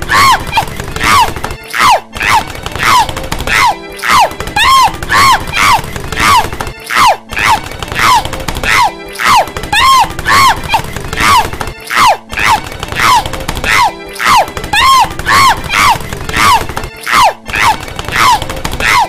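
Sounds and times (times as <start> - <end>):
cartoon woman yelping: 0.0 - 19.0.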